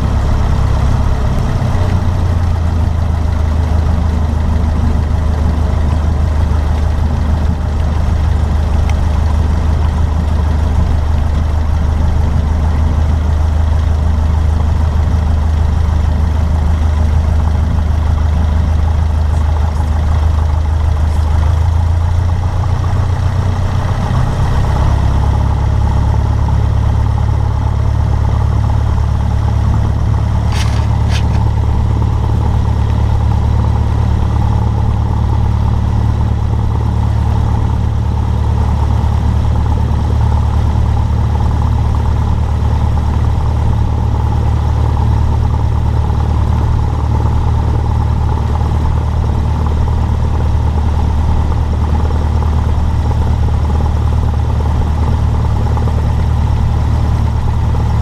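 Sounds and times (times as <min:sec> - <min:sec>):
airplane engine and propeller running: 0:00.0 - 0:58.0.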